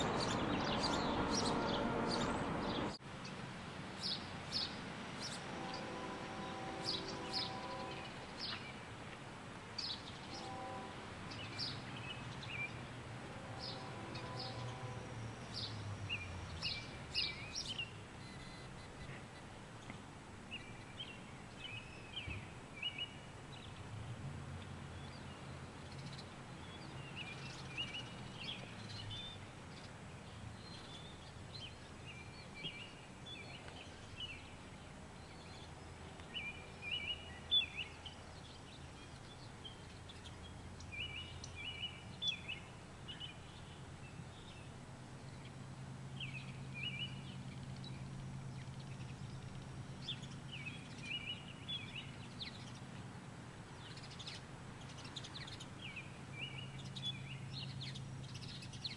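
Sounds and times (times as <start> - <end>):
small songbirds chirping: 0.0 - 9.1, 9.7 - 24.0, 24.6 - 58.9.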